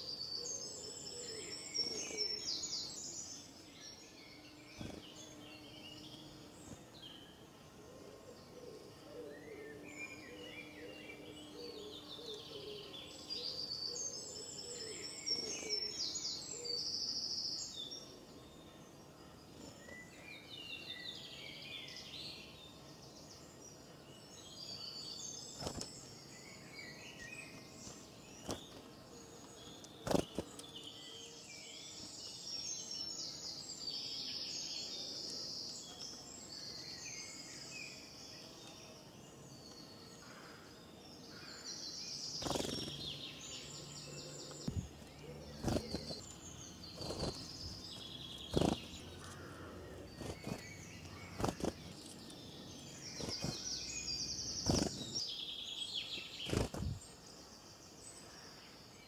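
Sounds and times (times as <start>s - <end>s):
outdoor background hiss: 0.0s - 59.0s
small birds chirping: 0.0s - 59.0s.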